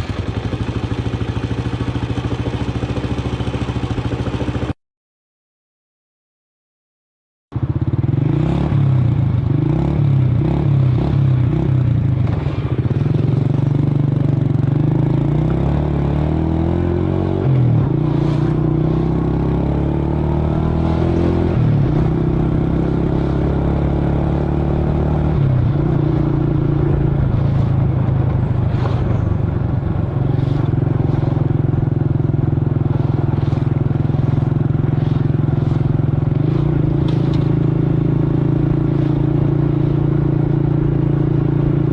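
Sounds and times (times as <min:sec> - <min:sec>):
scooter engine running: 0:00.0 - 0:04.8, 0:07.6 - 0:41.9.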